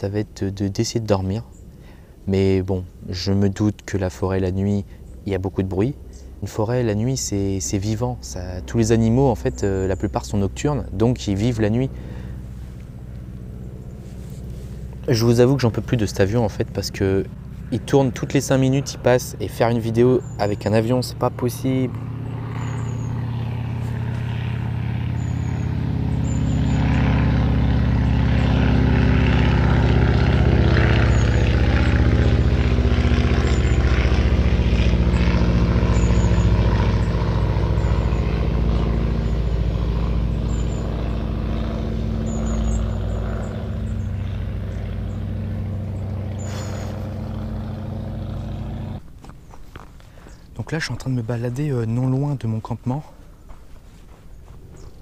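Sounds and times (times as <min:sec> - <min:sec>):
propeller airplane engine drone: 0:00.0 - 0:55.0.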